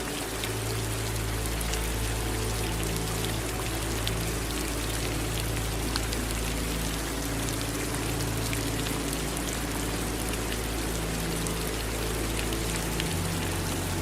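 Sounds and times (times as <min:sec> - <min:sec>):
low steady hum: 0:00.0 - 0:14.0
steady rain falling: 0:00.0 - 0:14.0.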